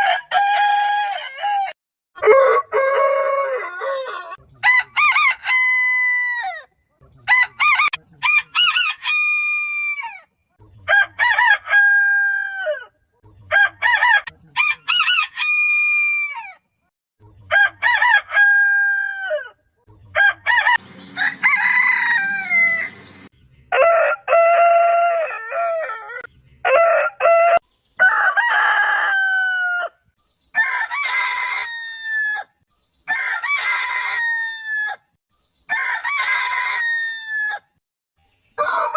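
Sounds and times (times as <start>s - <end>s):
roosters crowing: 0.0s - 6.7s, 7.3s - 12.9s, 13.5s - 16.6s, 17.5s - 37.8s, 38.6s - 38.9s.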